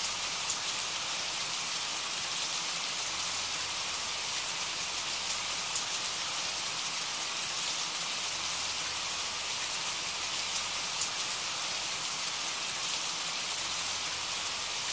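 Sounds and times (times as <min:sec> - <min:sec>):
steady rain: 0:00.0 - 0:14.9.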